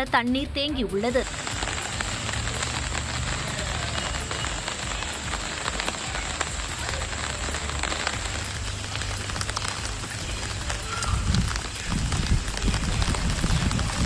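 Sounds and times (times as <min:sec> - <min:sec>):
rain falling on water: 0:00.0 - 0:14.0
low rumble: 0:01.1 - 0:14.0.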